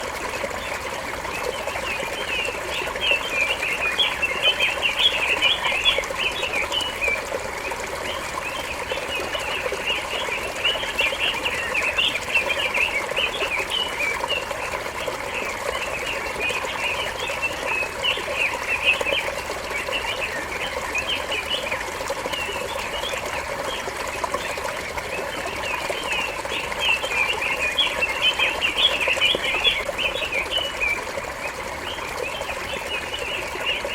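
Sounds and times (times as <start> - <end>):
songbirds chirping: 0.4 - 33.9.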